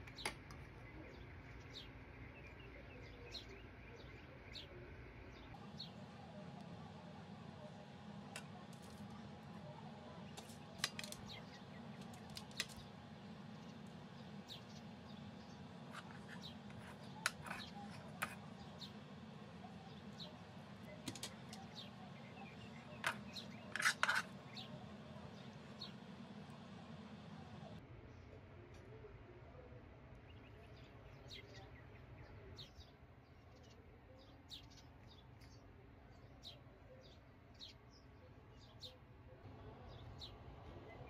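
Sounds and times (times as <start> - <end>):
steady low hum: 0.0 - 34.2.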